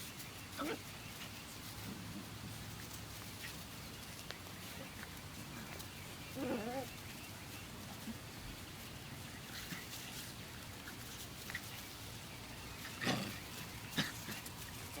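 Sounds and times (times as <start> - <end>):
dogs play-fighting sounds: 0.5 - 8.3, 9.2 - 15.0.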